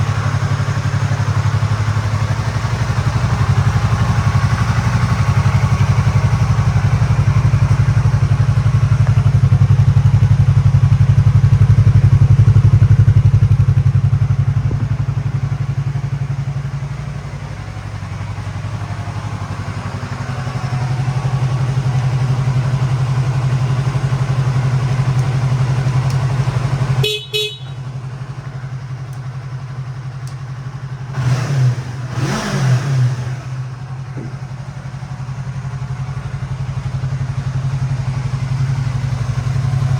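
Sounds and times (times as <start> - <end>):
engine throttle blips: 0.0 - 39.9
motorcycle engine idling: 0.0 - 39.9.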